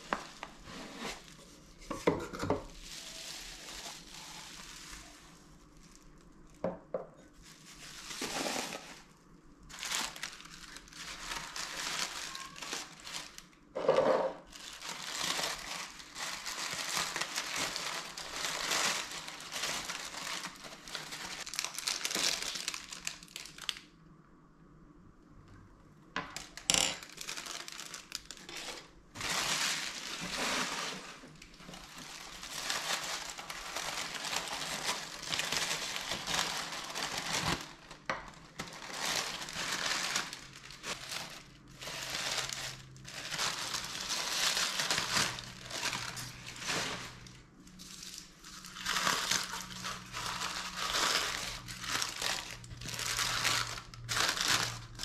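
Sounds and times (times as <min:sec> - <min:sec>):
paper packing crinkling: 0:00.0 - 0:01.9, 0:02.6 - 0:06.6, 0:07.3 - 0:13.6, 0:14.4 - 0:23.9, 0:26.3 - 0:55.0.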